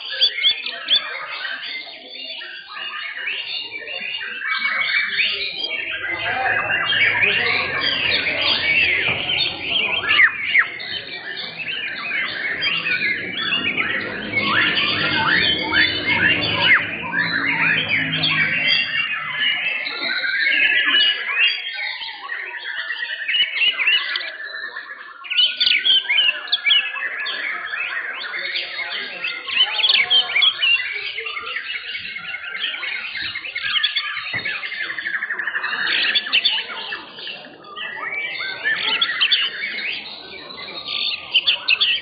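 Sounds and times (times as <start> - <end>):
birds singing whistles and trills: 0.0 - 42.0.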